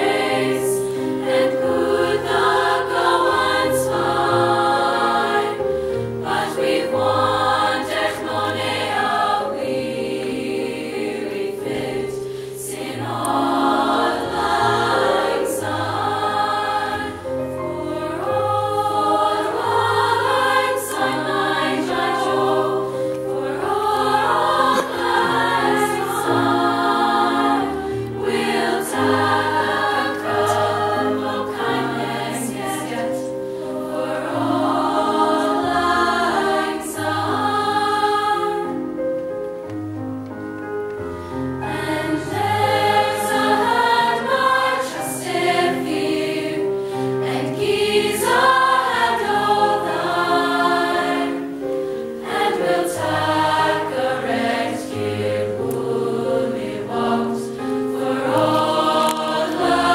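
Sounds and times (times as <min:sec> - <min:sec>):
choir singing: 0:00.0 - 0:39.6, 0:41.3 - 0:59.9.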